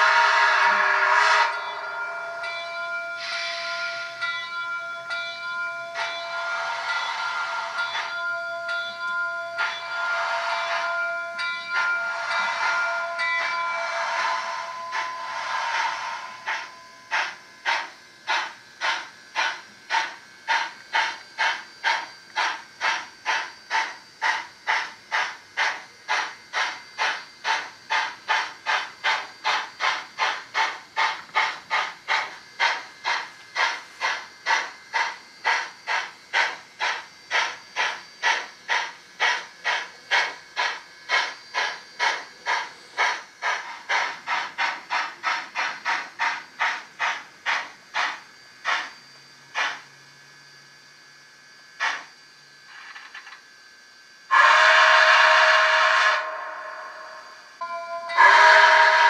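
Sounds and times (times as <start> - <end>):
model steam exhaust chuffs: 0.0 - 50.1, 51.8 - 52.1, 54.3 - 59.0.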